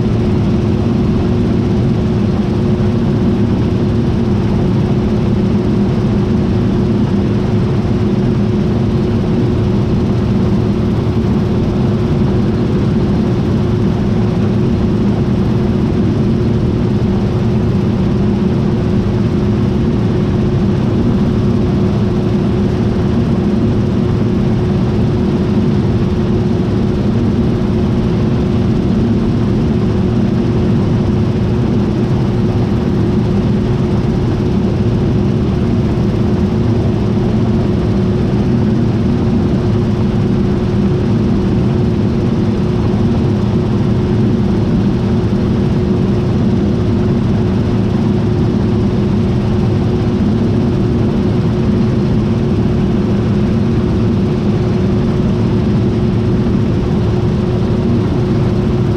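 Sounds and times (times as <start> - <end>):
combine harvester drone: 0.0 - 58.9.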